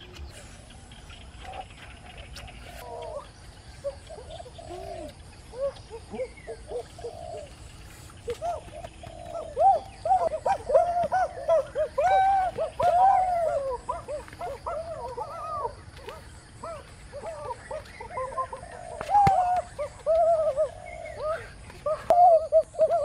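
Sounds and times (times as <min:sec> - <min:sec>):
chorus of animal calls: 0:00.0 - 0:23.0.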